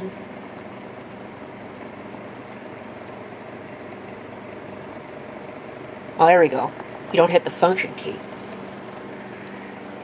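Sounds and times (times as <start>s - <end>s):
room noise hiss: 0.0s - 10.0s.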